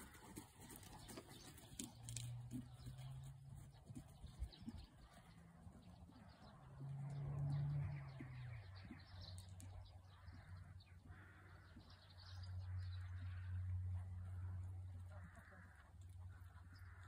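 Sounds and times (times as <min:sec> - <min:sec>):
small birds chirping: 0:00.0 - 0:17.0
low steady hum: 0:03.2 - 0:17.0.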